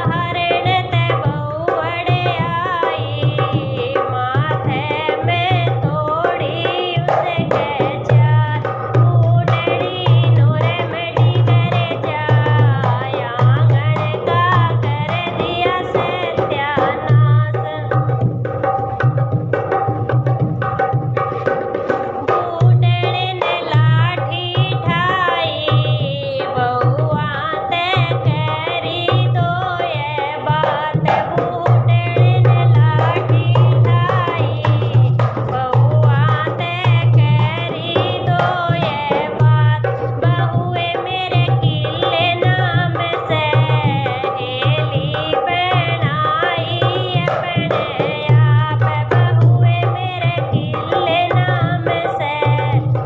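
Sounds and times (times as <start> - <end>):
hand-drum beat: 0.0 - 53.0.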